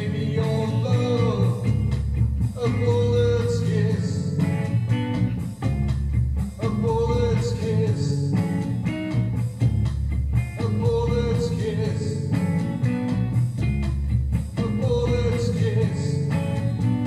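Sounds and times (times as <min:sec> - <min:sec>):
blues-rock band playing: 0:00.0 - 0:17.0.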